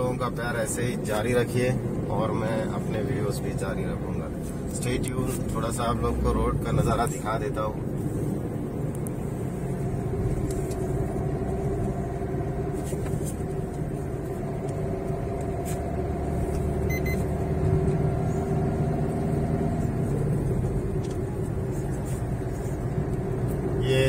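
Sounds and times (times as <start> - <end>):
car interior engine and road hum: 0.0 - 24.0.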